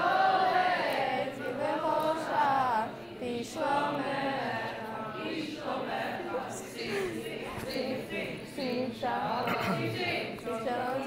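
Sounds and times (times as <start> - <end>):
girls singing together: 0.0 - 11.0.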